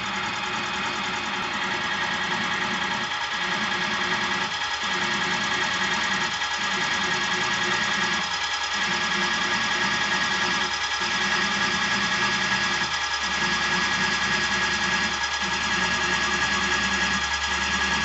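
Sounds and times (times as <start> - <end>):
machine spindle cutting metal: 0.0 - 18.0.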